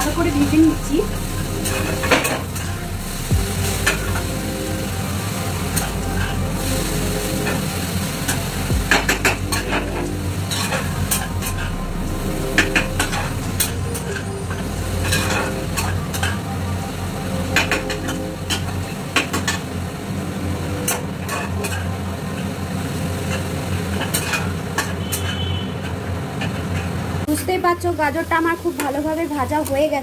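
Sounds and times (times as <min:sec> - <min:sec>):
low steady hum: 0:00.0 - 0:24.4
frying sizzle: 0:00.0 - 0:30.0.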